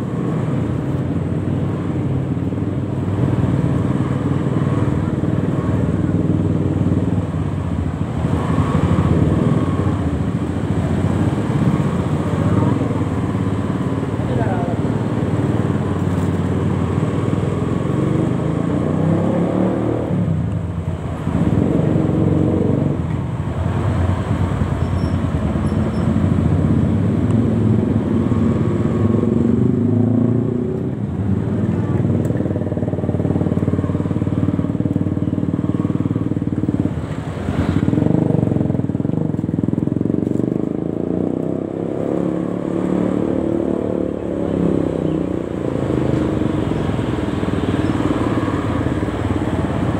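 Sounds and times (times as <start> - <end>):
motorcycle engines in traffic: 0.0 - 49.9.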